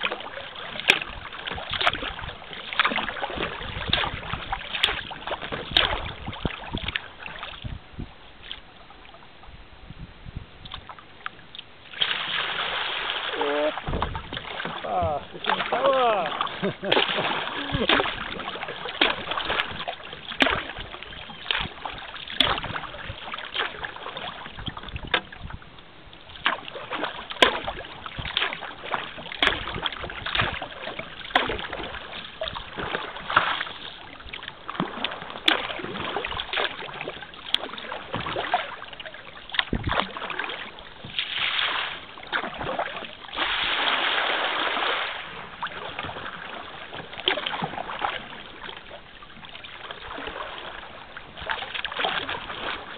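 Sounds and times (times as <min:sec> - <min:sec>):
paddle clicks: 0:00.0 - 0:07.4, 0:10.6 - 0:12.4, 0:13.2 - 0:43.6, 0:45.6 - 0:52.9
rushing water: 0:00.0 - 0:09.5, 0:10.7 - 0:52.9
paddle splashing water: 0:00.0 - 0:09.6, 0:10.6 - 0:52.9.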